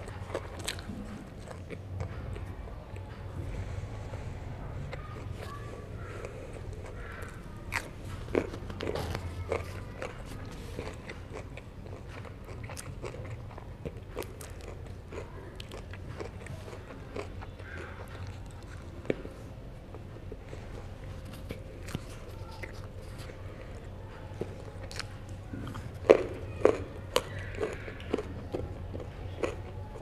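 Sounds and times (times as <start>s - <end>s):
person chewing with mouth clicks: 0.0s - 30.0s.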